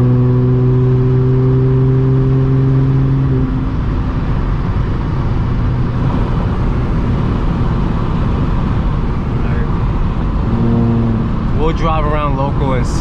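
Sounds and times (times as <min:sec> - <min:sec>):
car exhaust drone: 0:00.0 - 0:13.0
road noise: 0:00.0 - 0:13.0.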